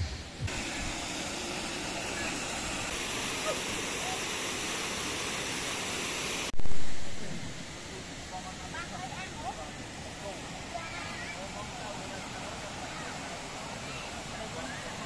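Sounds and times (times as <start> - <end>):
waterfall rushing: 0.4 - 15.0.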